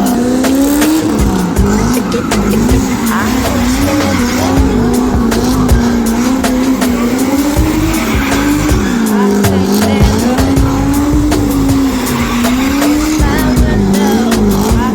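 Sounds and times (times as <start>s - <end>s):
car engine revving: 0.0s - 14.9s
tyres squealing and skidding: 0.0s - 14.9s.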